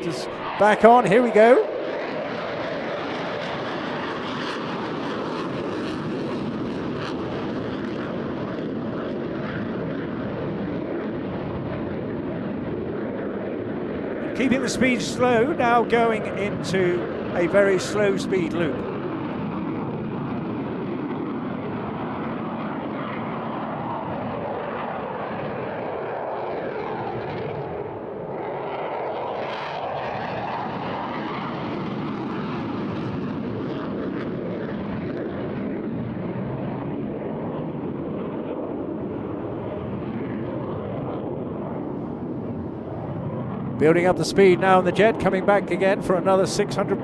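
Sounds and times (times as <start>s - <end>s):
fighter jet engine noise: 0.0s - 47.0s.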